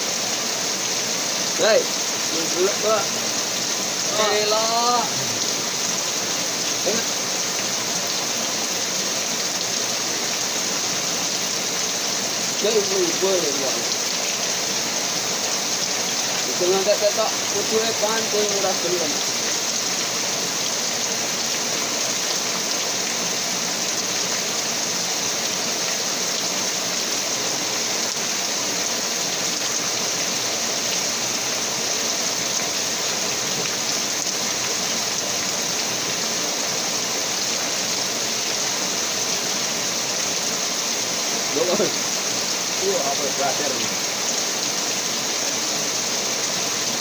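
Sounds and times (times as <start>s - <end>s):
water rushing with hiss: 0.0s - 47.0s.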